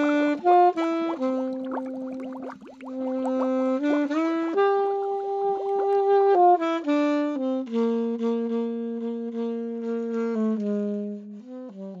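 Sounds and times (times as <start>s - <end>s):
saxophone playing slow melody: 0.0s - 12.0s.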